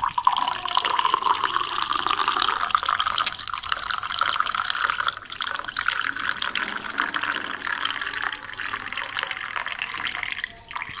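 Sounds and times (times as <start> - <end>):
liquid pouring into a cup: 0.0 - 11.0.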